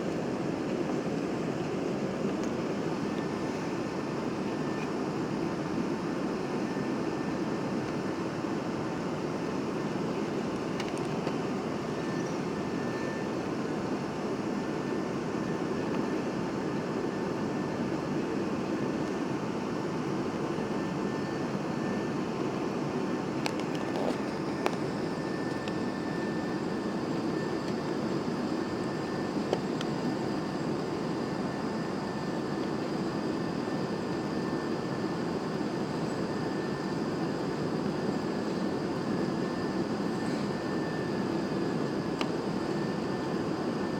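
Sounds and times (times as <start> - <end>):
aircraft cabin airflow and engine: 0.0 - 43.9
faint high whine: 0.0 - 43.9.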